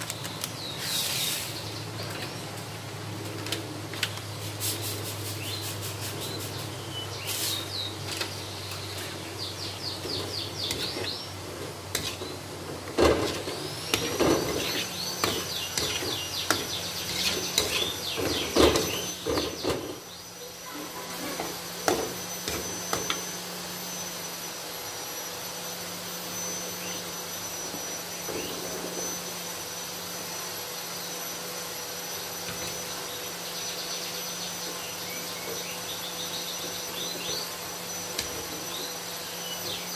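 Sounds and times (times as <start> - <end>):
steady high whine: 0.0 - 39.9.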